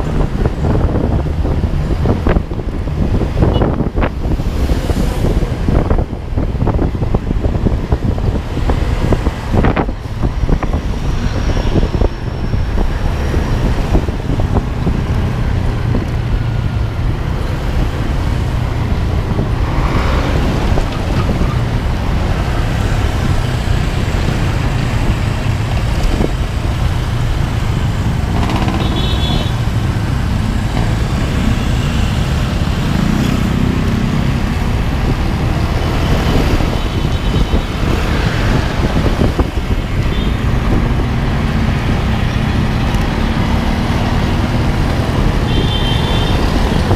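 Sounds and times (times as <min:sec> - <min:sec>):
vehicle rumbling on road: 0:00.0 - 0:46.9.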